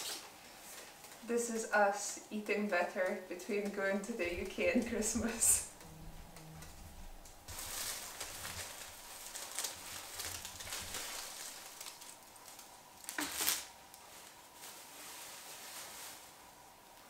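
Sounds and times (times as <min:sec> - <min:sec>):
plastic bag rustling: 0:02.4 - 0:17.0.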